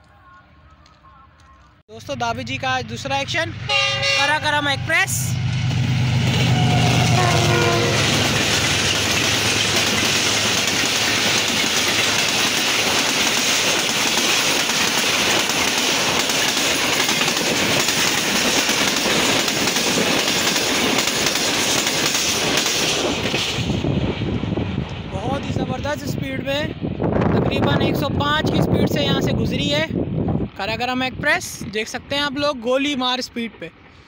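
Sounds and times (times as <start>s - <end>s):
train rushing past: 2.0s - 34.0s.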